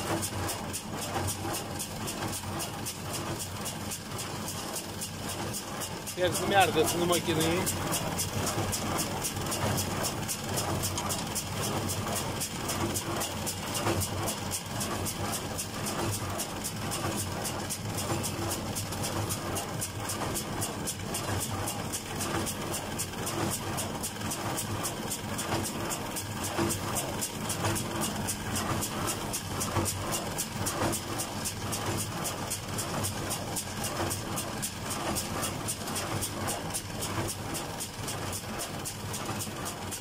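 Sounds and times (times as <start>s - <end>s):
tractor engine hum: 0.0s - 40.0s
baler fast ticking: 4.4s - 40.0s.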